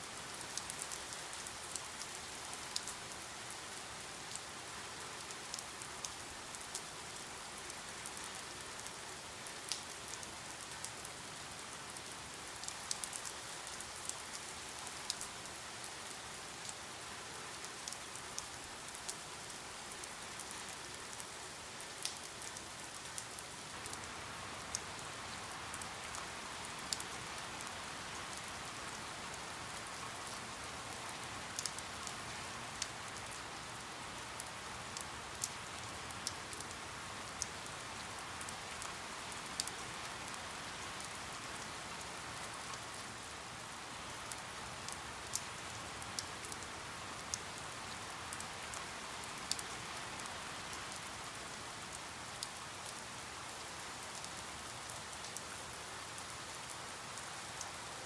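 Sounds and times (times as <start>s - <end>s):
steady rain hiss: 0.0s - 58.0s
raindrops ticking on a surface: 0.1s - 58.0s.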